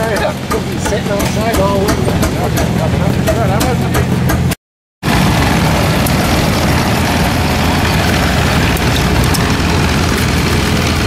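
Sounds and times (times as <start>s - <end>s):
engine running low-pitched: 0.0s - 11.0s.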